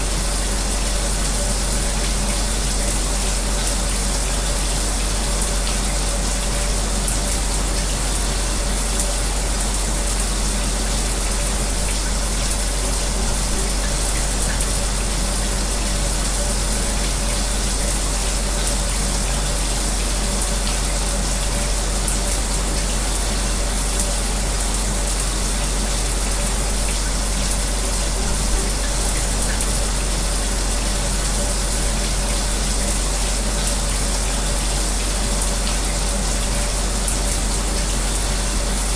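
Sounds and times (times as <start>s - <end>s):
shower spray running: 0.0s - 38.9s.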